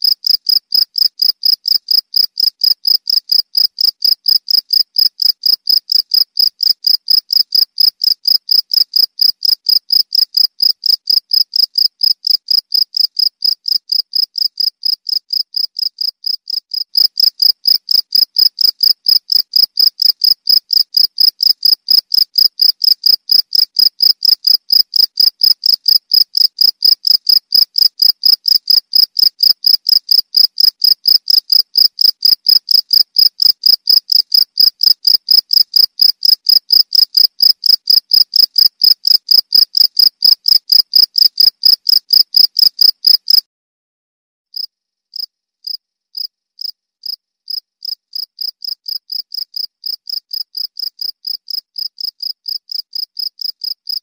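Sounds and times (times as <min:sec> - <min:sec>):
cricket chirping: 0:00.0 - 0:43.4.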